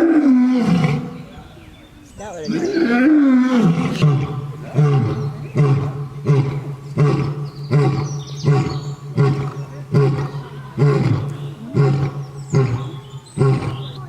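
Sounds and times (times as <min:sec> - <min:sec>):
lion roaring: 0:00.0 - 0:01.2, 0:02.5 - 0:14.0.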